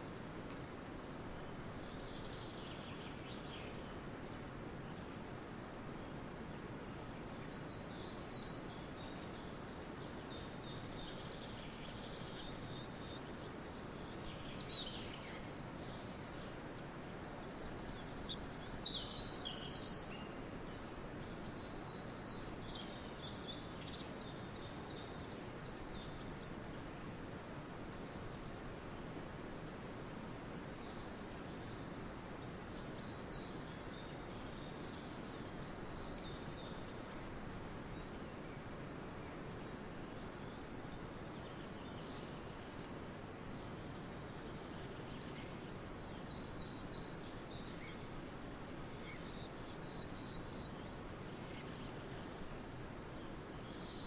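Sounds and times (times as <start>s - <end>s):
songbirds singing: 0.0s - 54.0s
steady background hiss: 0.0s - 54.0s.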